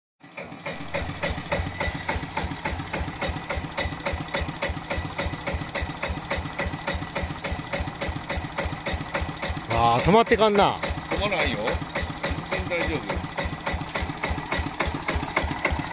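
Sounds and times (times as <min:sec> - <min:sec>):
diesel engine knocking: 0:00.2 - 0:15.9.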